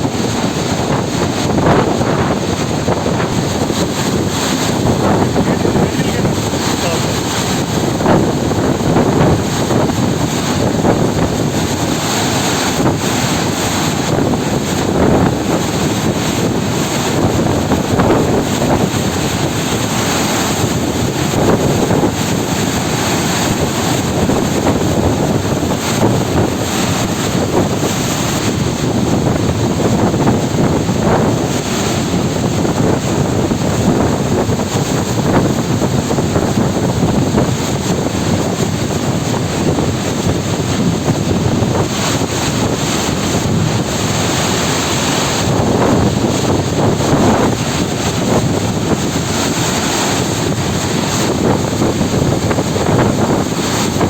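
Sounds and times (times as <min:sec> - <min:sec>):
water rushing from dam gates: 0:00.0 - 0:54.0
wind buffeting microphone: 0:00.0 - 0:54.0.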